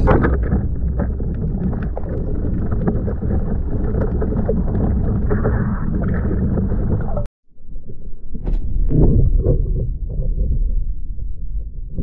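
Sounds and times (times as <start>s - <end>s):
muffled underwater rumble: 0.0s - 12.0s.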